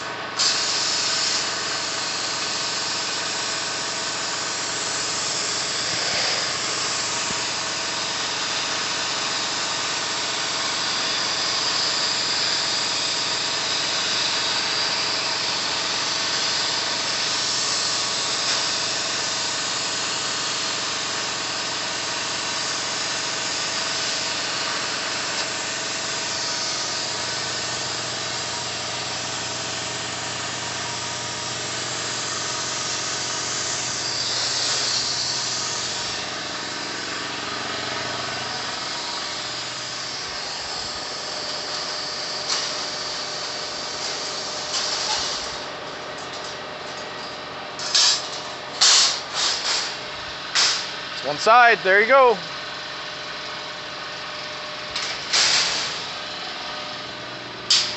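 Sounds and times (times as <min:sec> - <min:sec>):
plasma cutter hissing: 0:00.3 - 0:45.8, 0:47.8 - 0:51.4, 0:55.0 - 0:56.4, 0:57.7 - 0:57.9.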